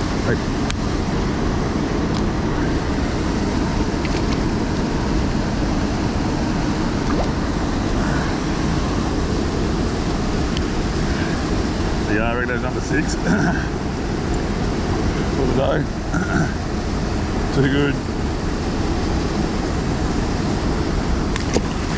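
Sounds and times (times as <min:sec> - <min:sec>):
river water rushing: 0:00.0 - 0:21.9.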